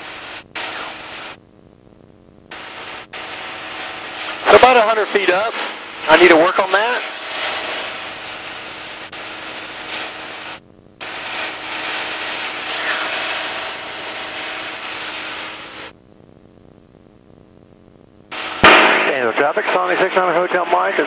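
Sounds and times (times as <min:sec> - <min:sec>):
intercom hiss: 0:00.0 - 0:01.4, 0:02.5 - 0:16.0, 0:18.2 - 0:21.0.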